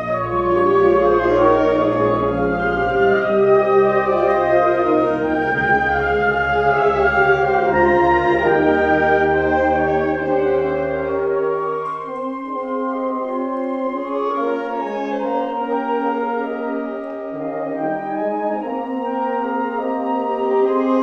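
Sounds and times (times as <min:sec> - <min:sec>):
wind band playing chords: 0:00.0 - 0:21.0.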